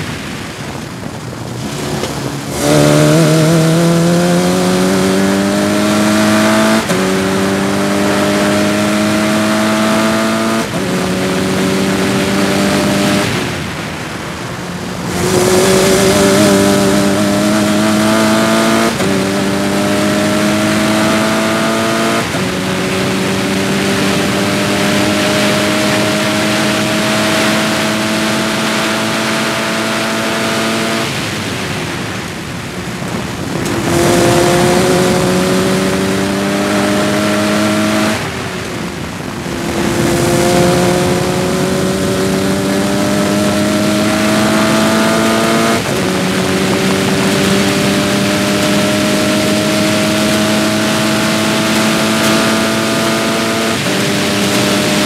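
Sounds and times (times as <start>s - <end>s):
race car engine at full throttle: 0.0s - 55.0s
wind rush: 0.0s - 55.0s.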